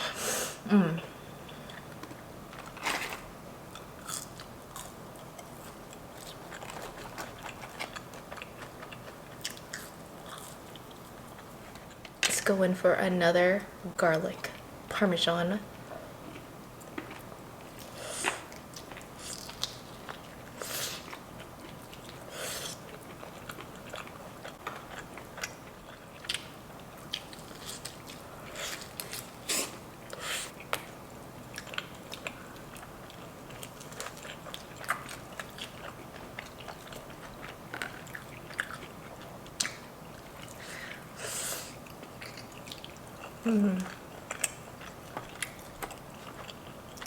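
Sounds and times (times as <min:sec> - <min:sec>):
person chewing crunchy food: 0:01.4 - 0:12.0, 0:16.2 - 0:47.0.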